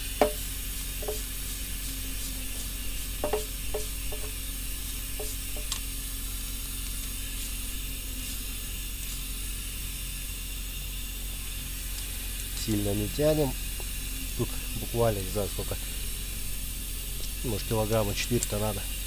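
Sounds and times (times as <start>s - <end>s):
steady hiss and low hum: 0.0s - 19.0s.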